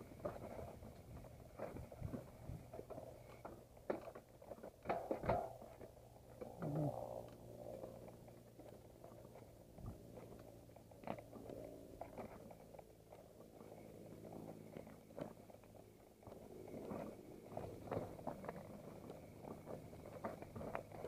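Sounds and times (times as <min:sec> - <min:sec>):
mountain bike rattling: 0:00.0 - 0:21.0
steady low hum: 0:00.0 - 0:21.0.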